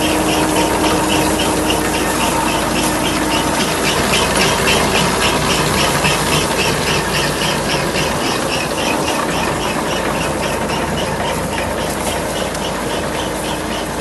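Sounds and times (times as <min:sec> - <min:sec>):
rhythmic squeak of moving parts: 0:00.0 - 0:14.0
tractor engine running: 0:00.0 - 0:14.0.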